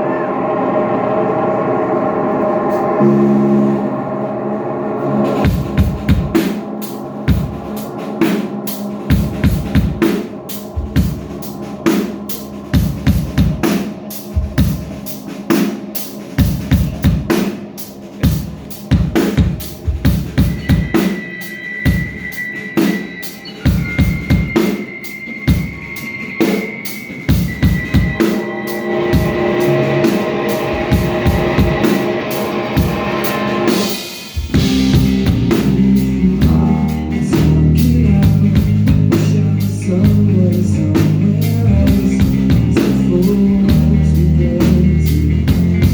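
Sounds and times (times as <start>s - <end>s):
thin steady high whine: 0.0s - 39.0s
held ringing pitched notes: 0.0s - 45.9s
drum kit pounding fast beat: 5.0s - 45.9s.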